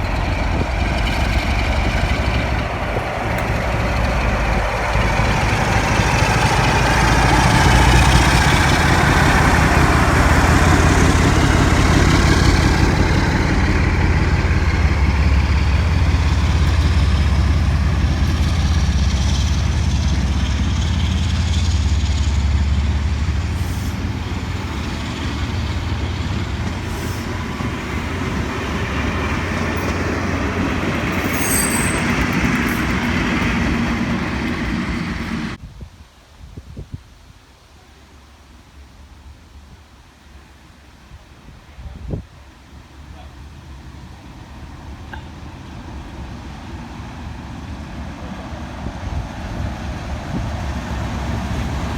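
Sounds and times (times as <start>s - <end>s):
train rumbling past: 0.0s - 35.6s, 41.6s - 51.9s.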